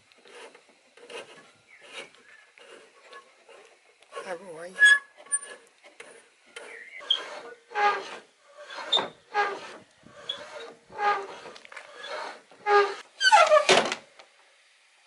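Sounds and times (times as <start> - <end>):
rudder fittings squeaking: 0.2 - 13.7.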